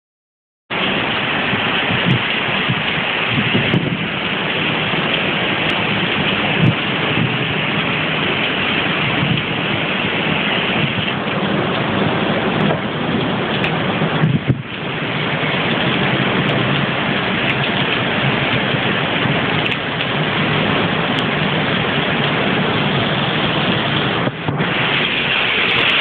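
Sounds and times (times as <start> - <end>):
heavy rain pouring: 0.7 - 26.0.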